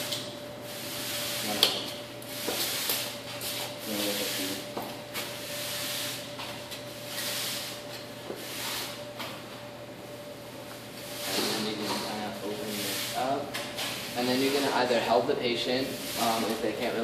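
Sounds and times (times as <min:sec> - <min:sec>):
push broom sweeping concrete: 0:00.0 - 0:09.0, 0:11.0 - 0:17.0.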